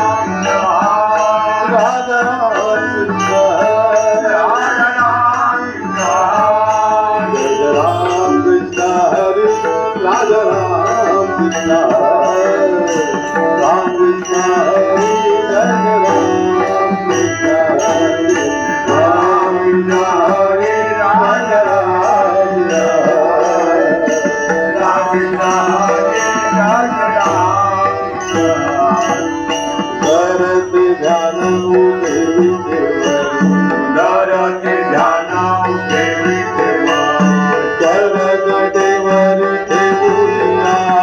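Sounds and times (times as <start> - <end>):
hand drum rhythm: 0.0 - 38.4
wavering devotional melody: 0.0 - 41.0.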